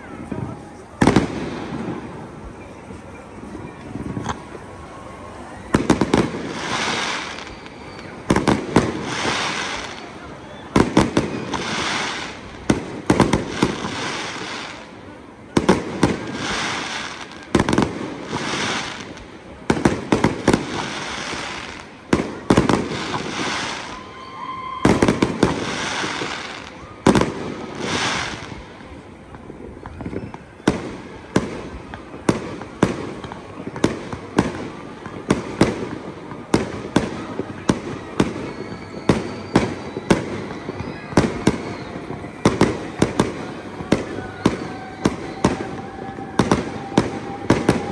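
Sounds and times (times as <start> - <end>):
fireworks bangs: 0.0 - 47.9
fireworks crackling hiss: 0.0 - 47.9.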